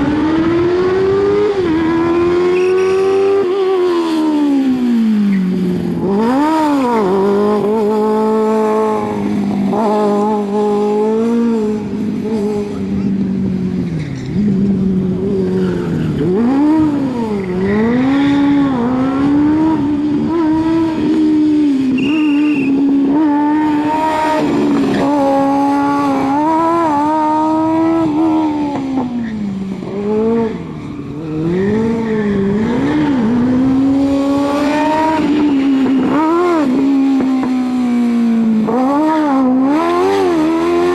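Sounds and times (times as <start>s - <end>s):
motorcycle engine revving hard: 0.0s - 40.9s.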